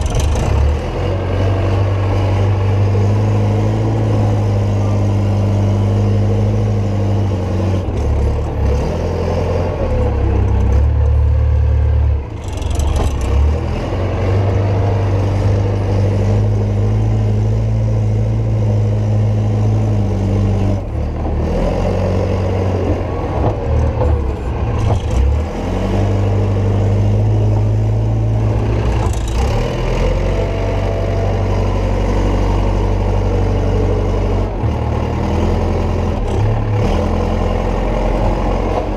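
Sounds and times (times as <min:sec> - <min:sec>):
diesel engine working under load: 0:00.0 - 0:38.9.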